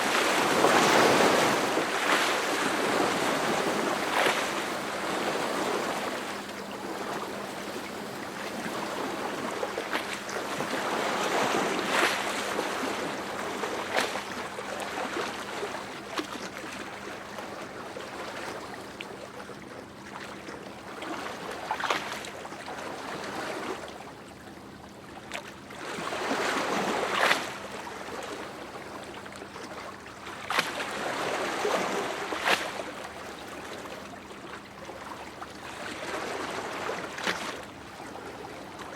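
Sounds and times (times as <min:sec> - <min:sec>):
sea waves breaking: 0:00.0 - 0:24.0, 0:25.2 - 0:38.9
water splashes: 0:00.0 - 0:24.0, 0:25.2 - 0:38.9.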